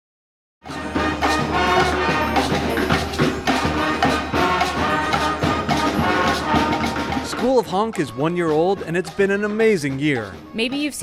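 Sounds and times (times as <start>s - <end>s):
brass band playing: 0.6s - 9.6s.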